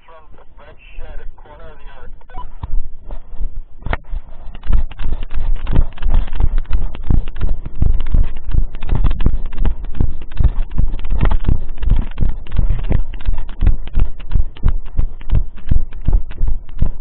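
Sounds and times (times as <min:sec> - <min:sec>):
camera rubbing against clothing: 0:00.1 - 0:17.0
brisk footsteps: 0:01.5 - 0:17.0.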